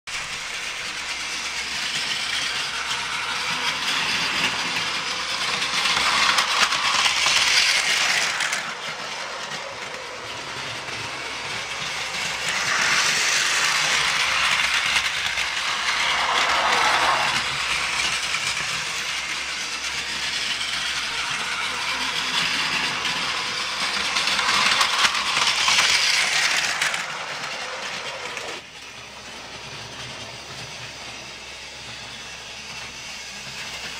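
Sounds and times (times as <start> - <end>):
toy train motor whirring: 0.1 - 33.9
toy train wheels clattering: 0.1 - 33.9.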